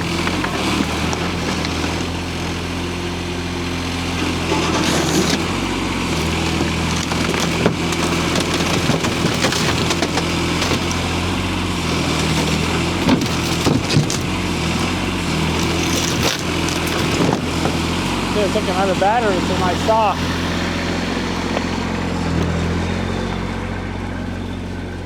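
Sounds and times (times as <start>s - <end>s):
mini excavator engine running: 0.0s - 25.0s.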